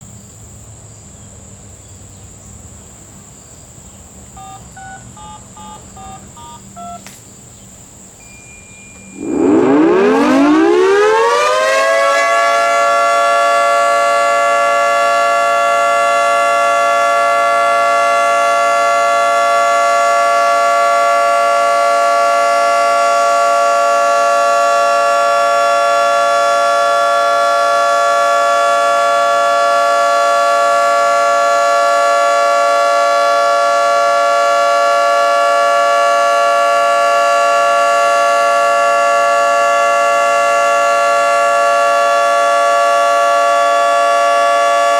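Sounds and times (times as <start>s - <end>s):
two-tone warning siren: 4.4s - 7.2s, 8.2s - 44.9s.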